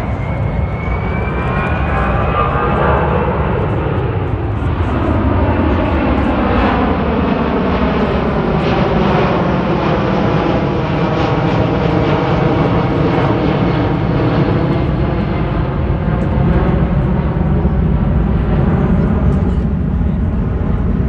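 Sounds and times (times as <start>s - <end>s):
jet aircraft engines rumbling: 0.0s - 21.0s.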